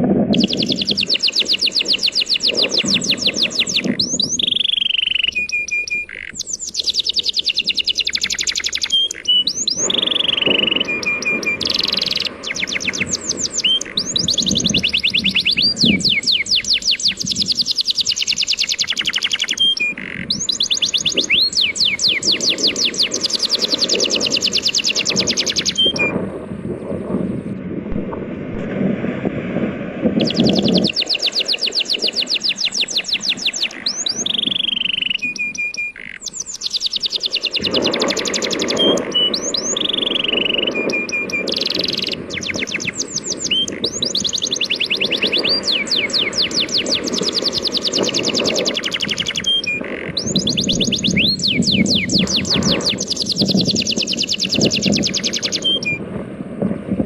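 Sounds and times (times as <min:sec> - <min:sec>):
songbird trilling: 0:00.3 - 0:26.2, 0:30.2 - 0:56.0
sea waves rushing: 0:07.6 - 0:57.0.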